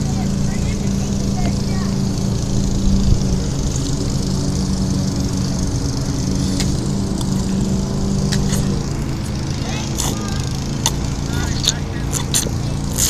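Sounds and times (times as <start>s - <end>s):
mechanical drone: 0.0s - 13.0s.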